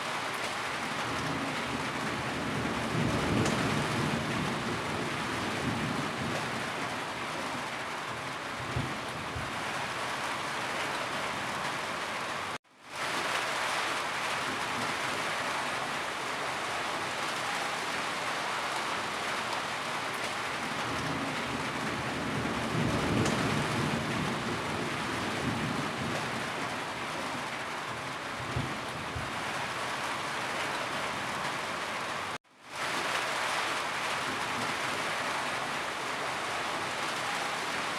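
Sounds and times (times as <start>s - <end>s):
rain on a roof: 0.0s - 37.9s.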